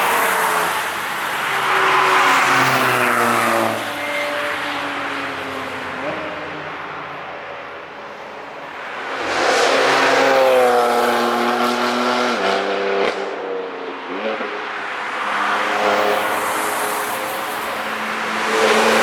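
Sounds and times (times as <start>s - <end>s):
race car engine passing: 0.0s - 19.0s.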